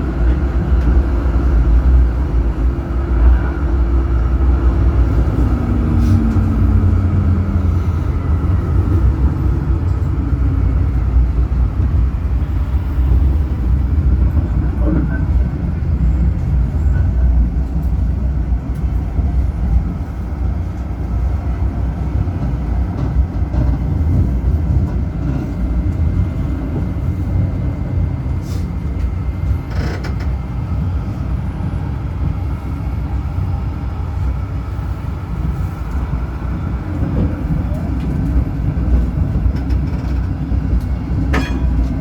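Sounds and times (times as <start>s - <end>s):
tram rumbling along track: 0.0s - 42.0s.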